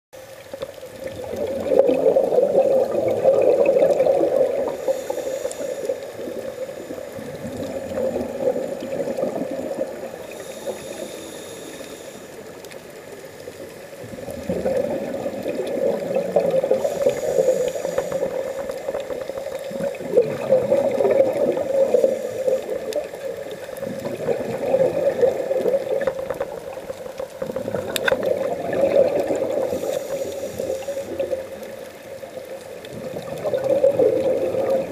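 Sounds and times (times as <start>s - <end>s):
faint regulator hiss: 0.2s - 34.9s
underwater bubbles gurgling: 0.2s - 34.9s.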